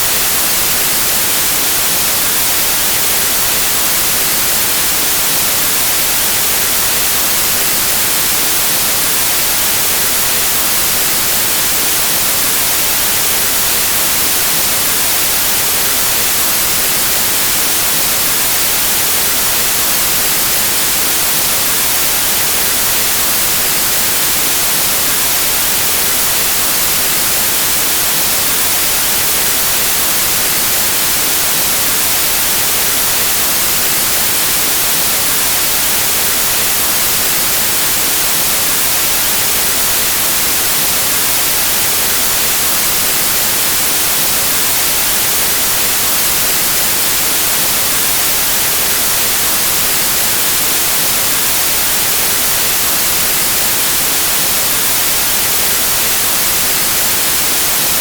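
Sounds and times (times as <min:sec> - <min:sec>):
white noise static hiss: 0:00.0 - 0:58.0.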